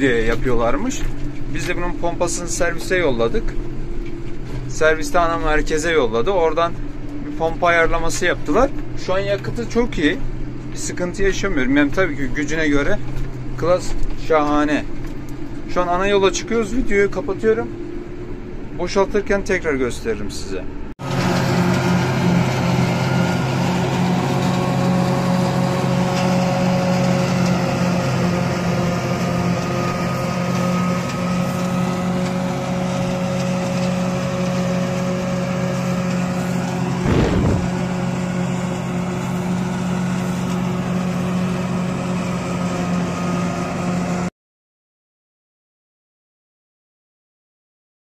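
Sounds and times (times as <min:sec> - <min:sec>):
tractor and forage chopper drone: 0:00.0 - 0:19.6, 0:21.0 - 0:44.3.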